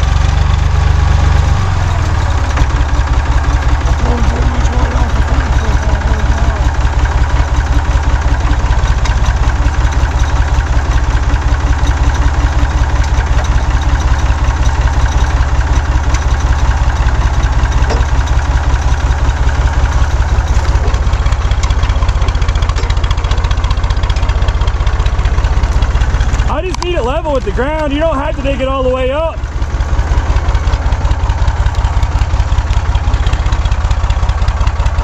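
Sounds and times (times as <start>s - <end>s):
tractor engine chugging: 0.0s - 35.0s.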